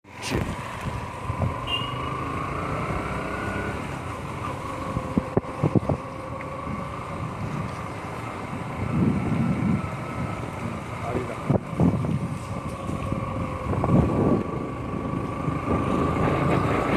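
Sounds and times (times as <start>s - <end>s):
vehicle engine running: 0.4s - 16.9s.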